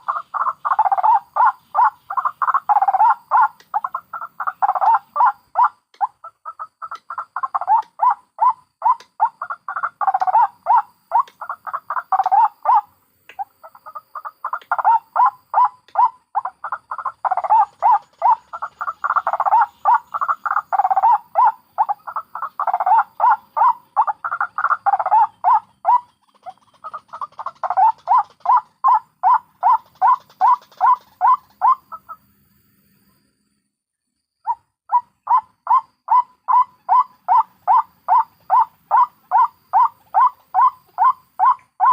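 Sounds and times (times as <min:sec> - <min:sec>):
waterhens croaking calls: 0:00.0 - 0:32.4, 0:34.4 - 0:41.9.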